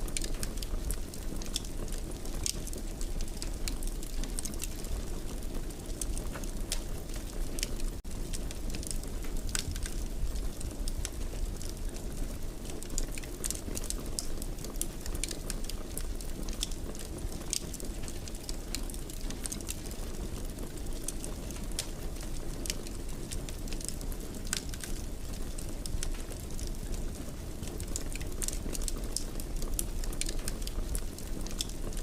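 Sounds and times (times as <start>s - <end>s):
fire crackling and popping: 0.0s - 32.0s
fire rumbling: 0.0s - 32.0s.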